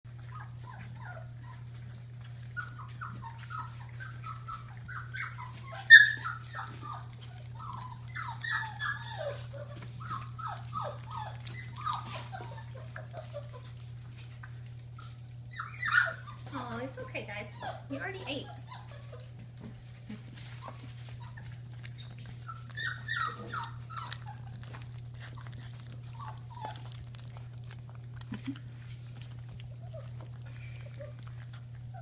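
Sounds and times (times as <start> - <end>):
puppies whimpering and yelping: 0.1 - 32.0
steady low hum: 0.1 - 32.0.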